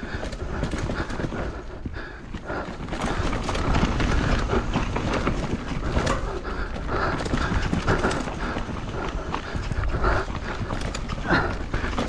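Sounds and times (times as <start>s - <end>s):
bike rattling over bumps: 0.0s - 12.0s
tyres rolling over dirt: 0.0s - 12.0s.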